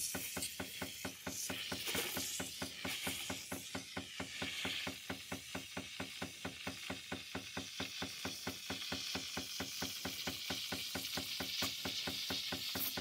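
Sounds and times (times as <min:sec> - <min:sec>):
steam wand frothing milk: 0:00.0 - 0:13.0.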